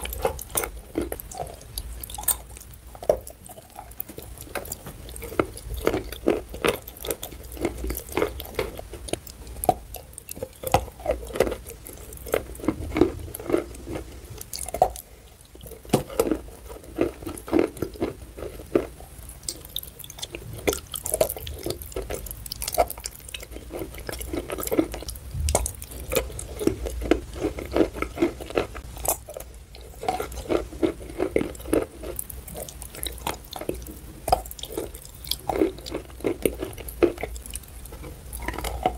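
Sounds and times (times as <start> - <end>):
wet chewing and crunching: 0.0 - 38.9.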